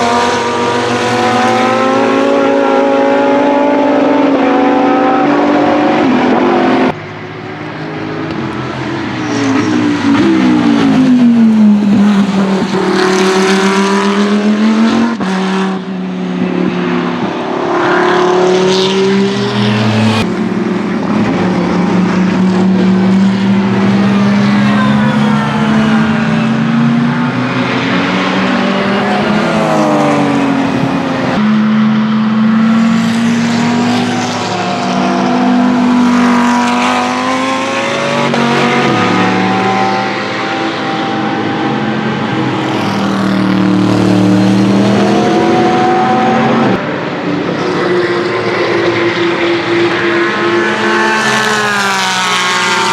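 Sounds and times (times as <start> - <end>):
race cars passing at speed: 0.0 - 52.9.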